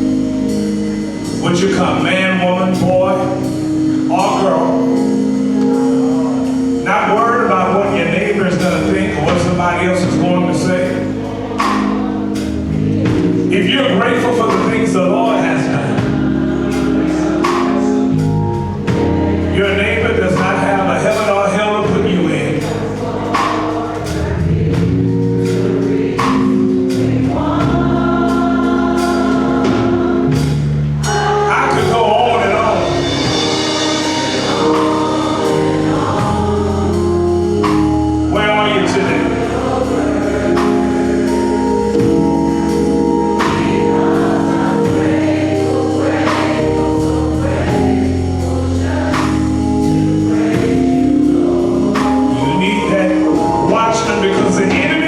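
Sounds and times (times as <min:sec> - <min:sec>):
slow steady beat: 0:00.0 - 0:54.2
gospel choir singing: 0:00.0 - 0:55.0
instrumental accompaniment: 0:00.0 - 0:55.0
sustained keyboard chords: 0:00.0 - 0:55.0.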